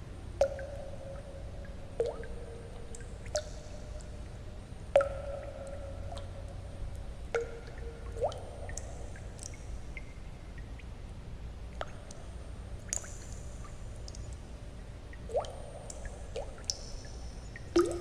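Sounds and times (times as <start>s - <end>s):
low white-noise hum: 0.0s - 18.0s
water drops plinking into water: 0.3s - 10.9s, 11.7s - 18.0s.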